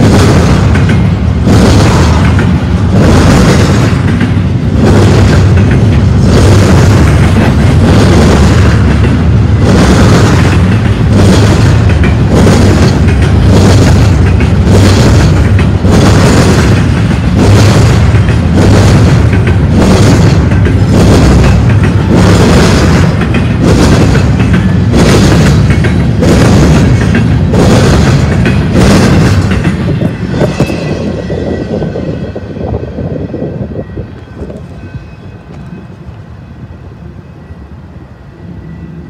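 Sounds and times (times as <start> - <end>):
freight train rail rumble: 0.0 - 39.0.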